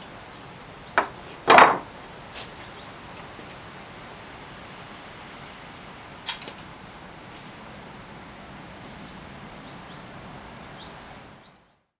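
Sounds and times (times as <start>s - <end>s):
background hiss: 0.0s - 11.9s.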